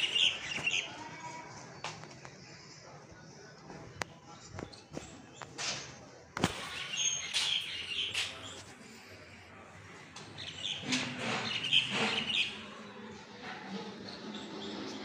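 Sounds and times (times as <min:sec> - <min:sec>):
small birds chirping: 0:00.0 - 0:03.0, 0:03.7 - 0:15.0.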